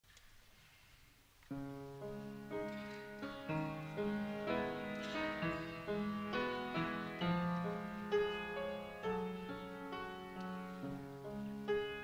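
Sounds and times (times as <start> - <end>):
faint hiss: 0.0 - 12.0
keyboard chords and melody: 1.6 - 12.0.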